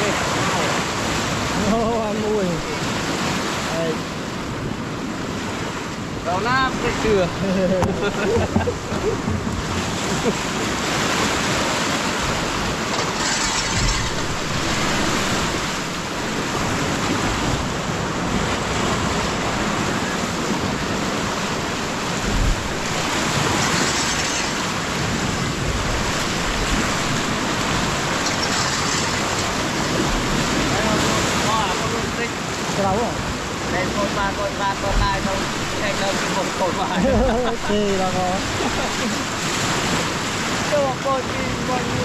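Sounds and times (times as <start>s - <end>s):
wind gusting on microphone: 0.0s - 40.8s
floodwater rushing: 0.0s - 42.0s.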